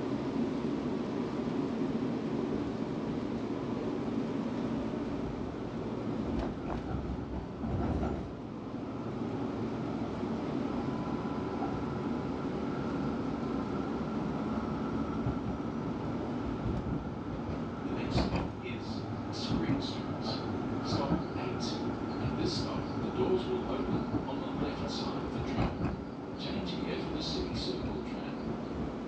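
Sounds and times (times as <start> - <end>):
tram rumbling along rails: 0.0 - 29.0.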